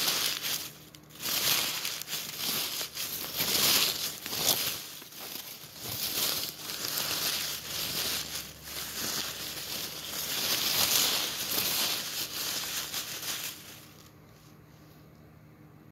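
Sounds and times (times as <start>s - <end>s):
paper wrapper crinkling: 0.0s - 14.4s.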